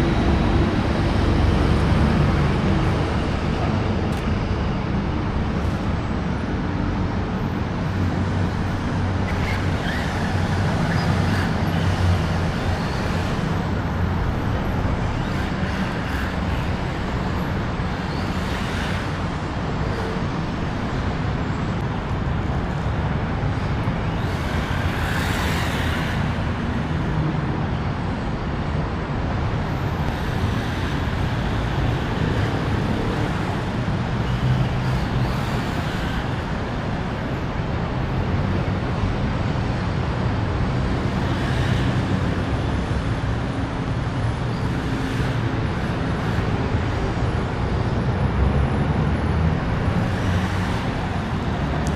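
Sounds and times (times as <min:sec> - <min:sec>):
road traffic noise: 0:00.0 - 0:51.9
vehicles passing by: 0:00.0 - 0:51.9.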